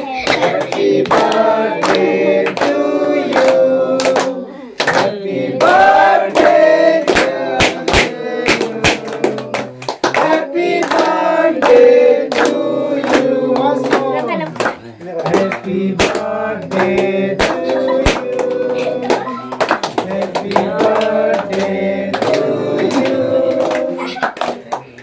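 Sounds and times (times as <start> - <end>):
hands clapping in rhythm: 0.0 - 25.0
singing with accompaniment: 0.1 - 24.2.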